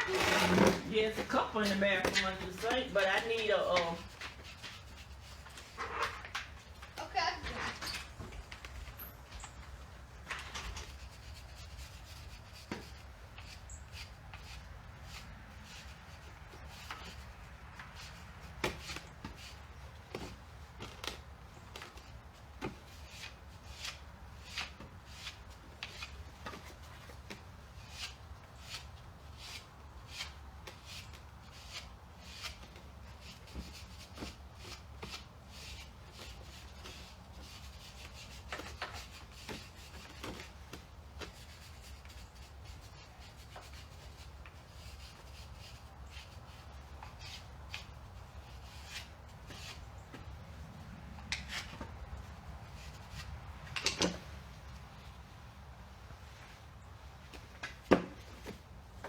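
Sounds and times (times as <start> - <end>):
hand rubbing and scraping: 0.0 - 59.0.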